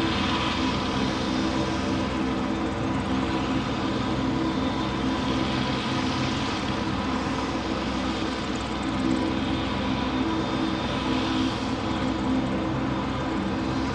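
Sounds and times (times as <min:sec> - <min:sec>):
steady engine drone: 0:00.0 - 0:13.9.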